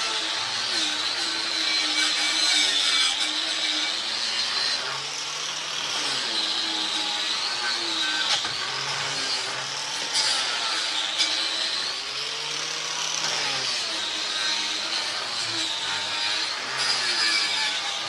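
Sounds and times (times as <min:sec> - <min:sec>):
angle grinder scouring metal: 0:00.0 - 0:18.0.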